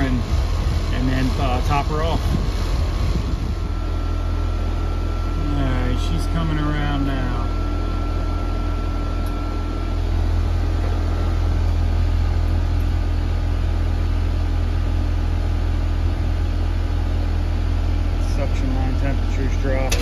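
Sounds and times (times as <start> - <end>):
compressor humming: 0.0 - 20.0
condenser fan rushing: 0.0 - 20.0.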